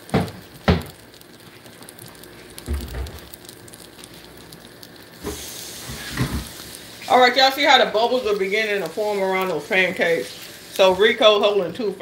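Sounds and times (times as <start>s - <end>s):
batter frying on griddle: 0.0s - 12.0s.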